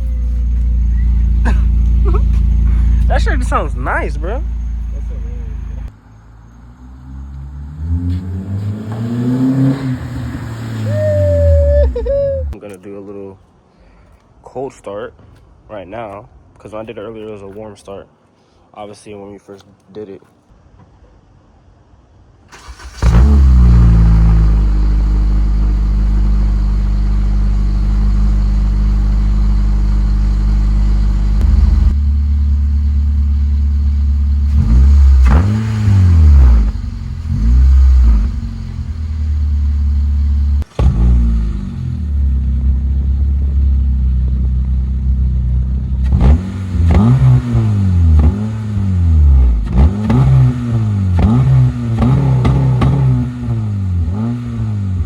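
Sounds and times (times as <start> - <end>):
car engine idling and revving: 0.0 - 12.6, 22.5 - 55.0.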